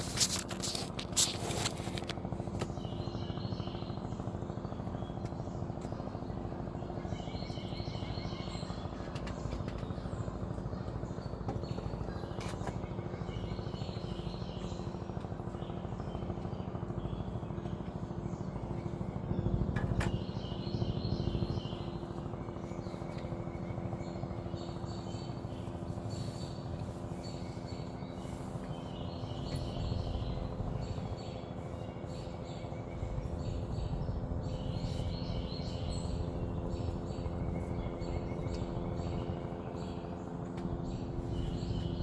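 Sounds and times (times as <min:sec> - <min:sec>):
birds chirping: 0:00.0 - 0:04.2, 0:04.8 - 0:42.0
helicopter hovering: 0:00.0 - 0:42.0.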